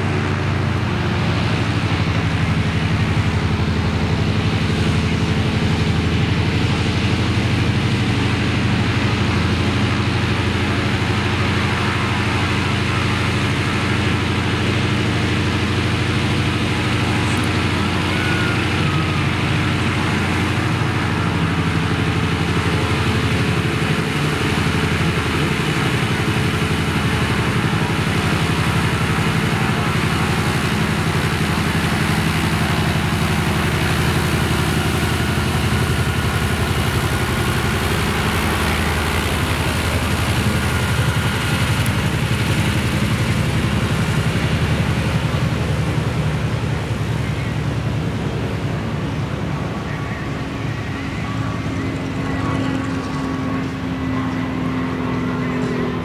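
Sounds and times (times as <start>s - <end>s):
radial aircraft engine droning: 0.0s - 56.0s.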